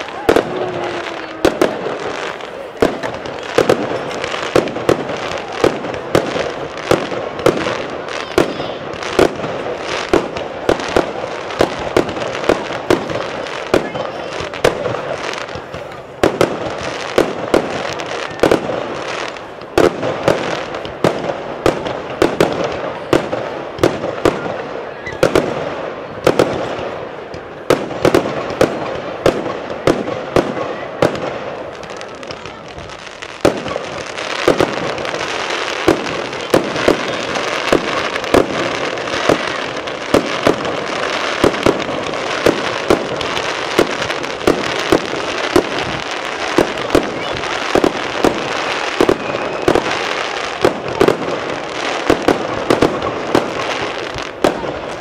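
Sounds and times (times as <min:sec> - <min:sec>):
fireworks bangs: 0:00.0 - 0:55.0
fireworks crackle: 0:00.0 - 0:55.0.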